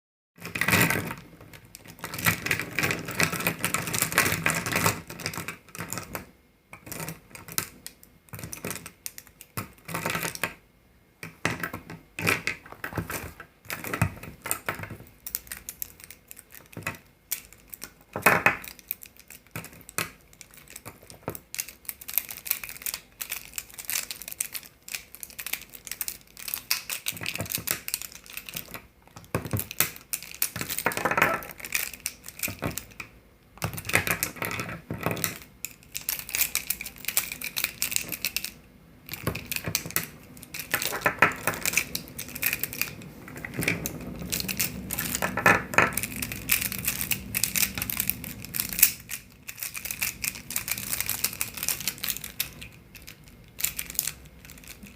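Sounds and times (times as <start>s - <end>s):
plastic pens clicking and rattling: 0.4s - 10.6s, 11.2s - 54.9s.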